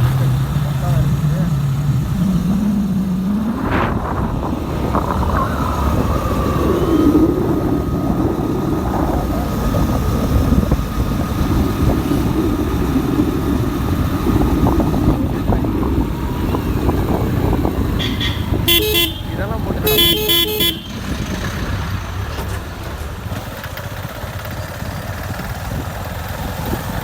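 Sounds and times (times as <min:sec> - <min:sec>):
motorcycle engine: 0:00.0 - 0:27.0
road noise: 0:00.0 - 0:27.0.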